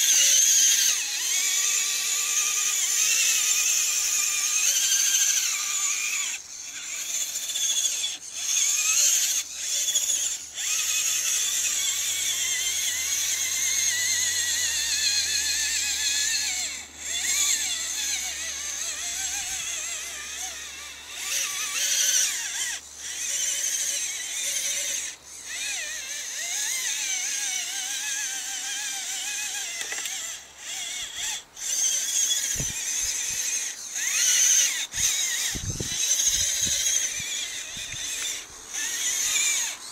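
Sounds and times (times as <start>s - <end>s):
rc truck electric motor whining: 0.0s - 39.9s.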